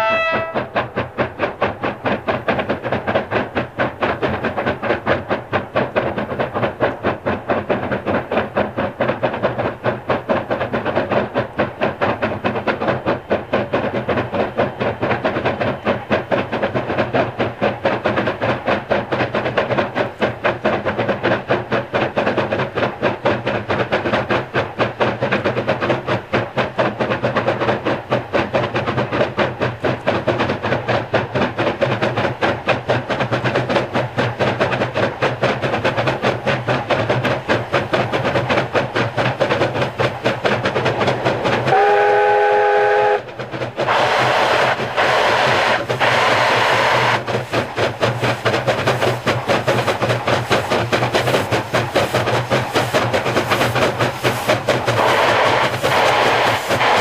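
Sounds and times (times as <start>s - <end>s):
steam locomotive exhaust chuffing: 0.0s - 57.0s.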